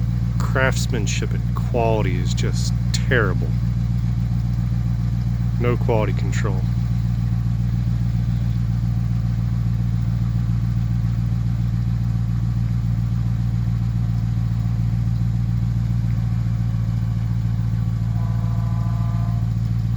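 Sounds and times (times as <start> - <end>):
deep car engine idling: 0.0 - 19.9.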